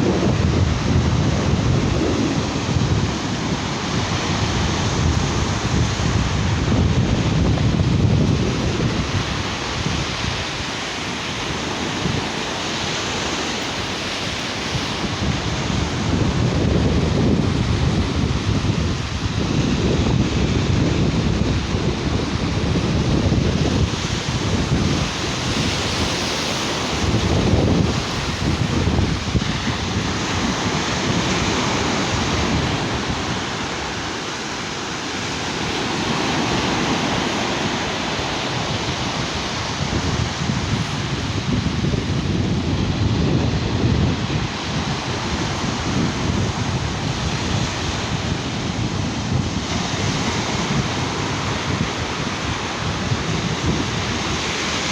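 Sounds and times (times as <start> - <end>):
waves washing onto beach: 0.0 - 54.9
wind buffeting microphone: 0.0 - 54.9.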